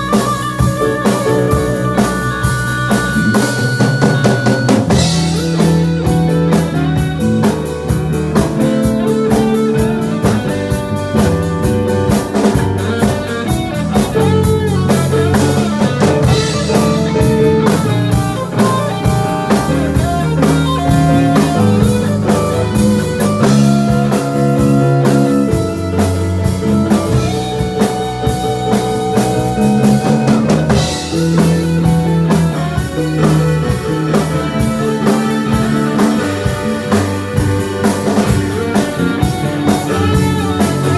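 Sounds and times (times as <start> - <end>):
drum kit: 0.0 - 40.9
guitar: 0.0 - 40.9
live band music: 0.0 - 40.9.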